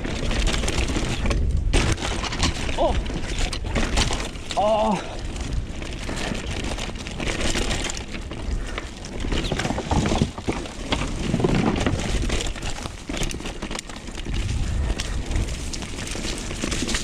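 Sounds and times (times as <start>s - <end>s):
bike rattling: 0.0s - 17.0s
tyres crunching over loose ground: 0.0s - 17.0s
wind rumble on microphone: 0.0s - 17.0s.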